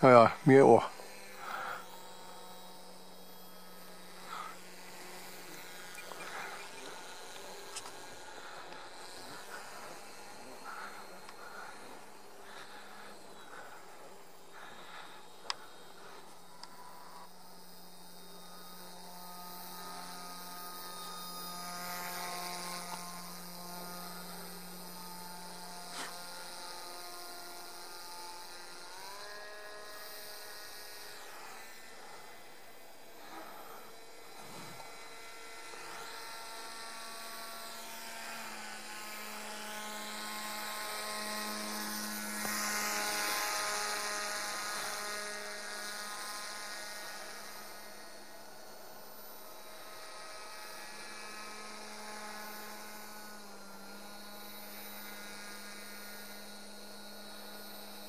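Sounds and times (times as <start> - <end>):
model aircraft motor whining: 0.0 - 58.0.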